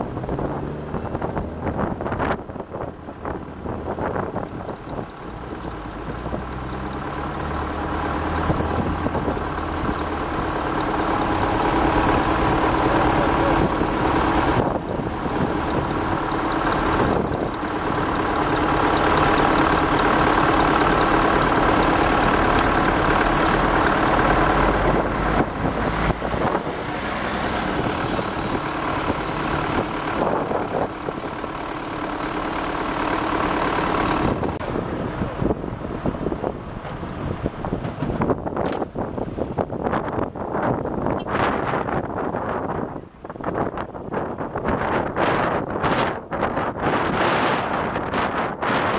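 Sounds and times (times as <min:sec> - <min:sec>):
heavy truck engine running: 0:00.0 - 0:48.9.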